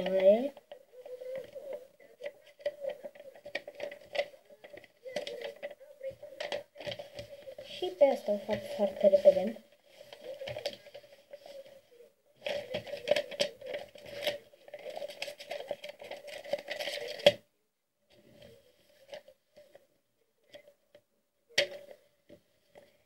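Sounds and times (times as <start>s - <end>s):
stiff paper crinkling: 0.0s - 17.4s, 18.1s - 20.8s.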